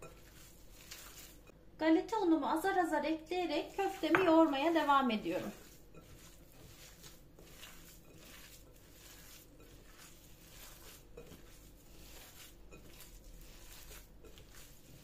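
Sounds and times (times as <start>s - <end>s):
hands kneading minced meat: 0.0s - 1.6s, 3.2s - 15.0s.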